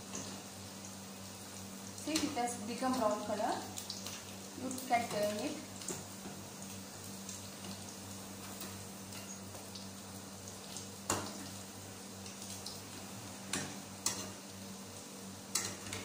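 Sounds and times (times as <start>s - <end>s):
deep-frying sizzle in hot oil: 0.0s - 16.0s.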